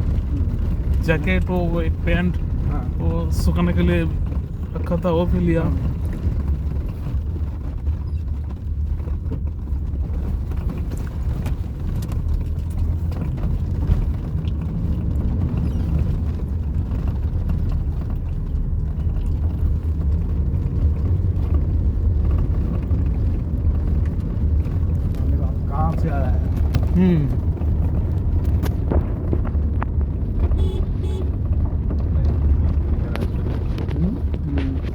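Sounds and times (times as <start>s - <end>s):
vehicle low rumble: 0.0s - 34.9s.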